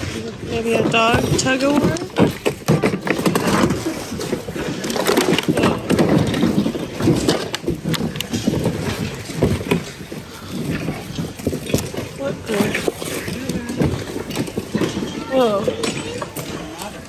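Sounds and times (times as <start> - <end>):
items knocking and clattering: 0.0 - 17.0
rustling of plastic packaging: 0.0 - 17.0.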